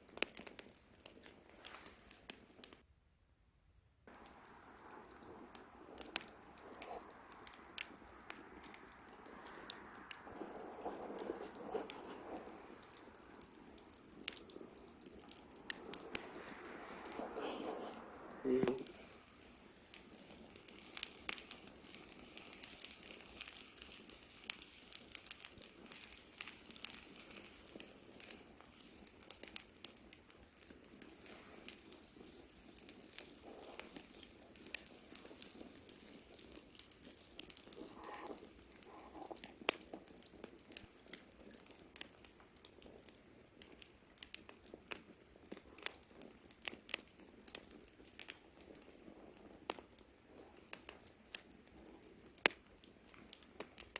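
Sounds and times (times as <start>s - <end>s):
campfire crackling and popping: 0.0s - 2.8s, 4.0s - 53.9s
flames hissing: 0.0s - 2.8s, 4.1s - 53.9s.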